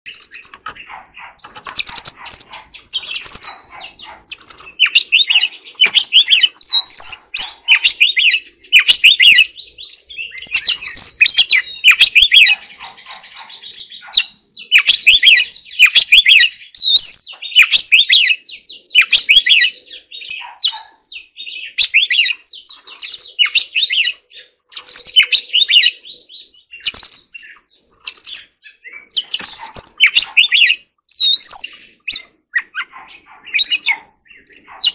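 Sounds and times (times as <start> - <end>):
bird singing whistled song: 0.1 - 34.9.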